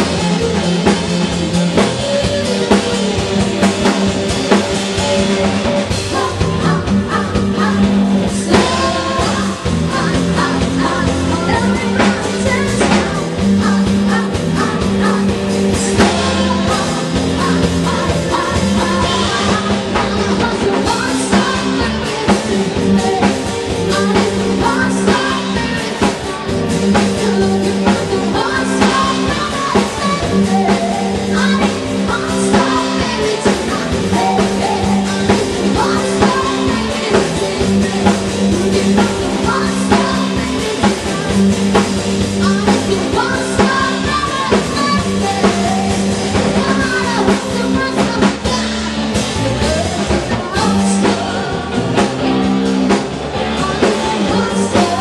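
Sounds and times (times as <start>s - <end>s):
drum kit: 0.0s - 55.0s
electric guitar: 0.0s - 55.0s
women singing: 0.0s - 55.0s.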